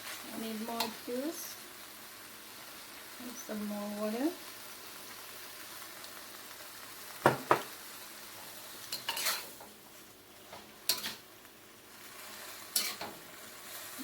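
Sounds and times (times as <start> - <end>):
stir-fry sizzling: 0.0 - 14.0.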